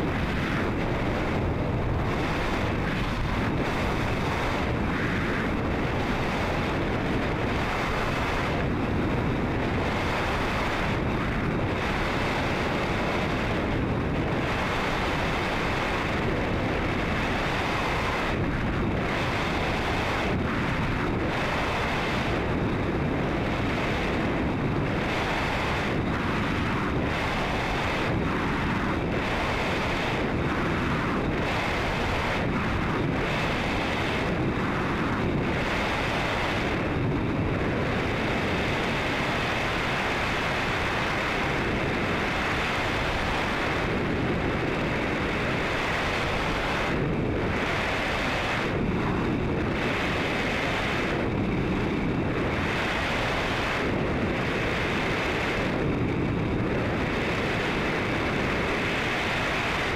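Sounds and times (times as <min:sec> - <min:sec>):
wind rushing on microphone: 0:00.0 - 0:59.9.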